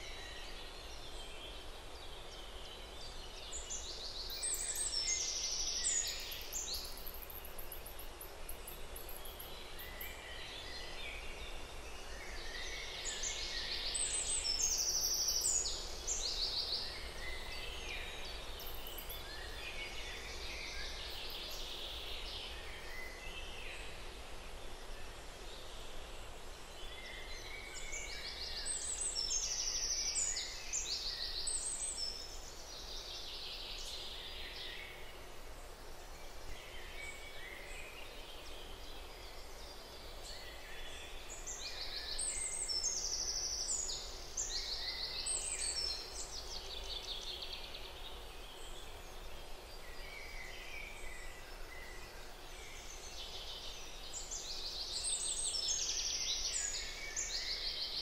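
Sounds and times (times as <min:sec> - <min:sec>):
outdoor ambience hiss: 0:00.0 - 0:58.0
songbirds chirping: 0:00.0 - 0:58.0.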